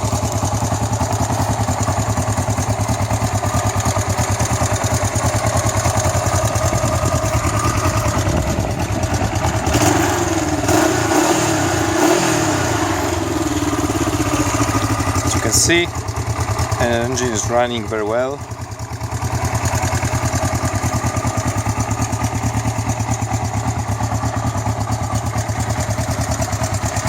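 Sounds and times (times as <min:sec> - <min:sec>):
engine throttle blips: 0:00.0 - 0:24.0
motorcycle engine idling: 0:00.0 - 0:27.0.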